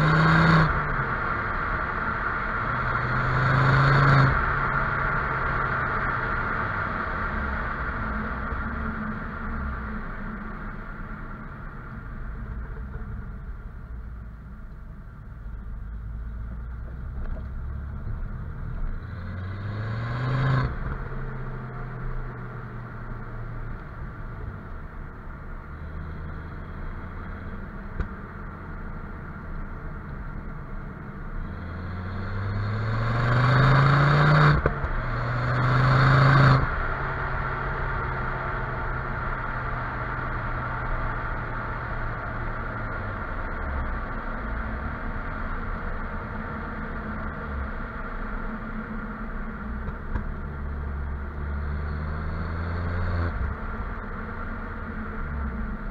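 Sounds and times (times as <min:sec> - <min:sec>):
car engine exhaust note: 0:00.0 - 0:55.9.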